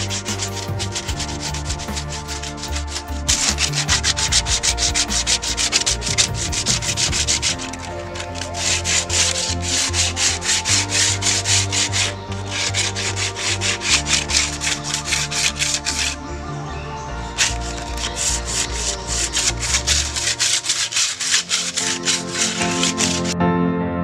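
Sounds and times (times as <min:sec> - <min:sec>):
sandpaper rubbing on wood: 0:00.0 - 0:16.6, 0:17.2 - 0:23.4.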